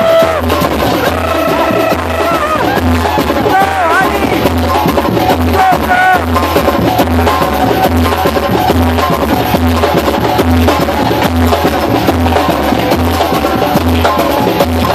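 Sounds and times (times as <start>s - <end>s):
deep bass drum beats: 0.0s - 14.9s
rattling higher percussion: 0.0s - 14.9s.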